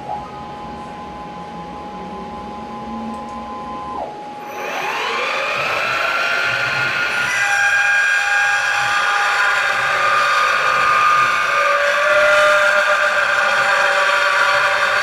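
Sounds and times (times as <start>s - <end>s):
milling machine high whine: 0.3s - 15.0s.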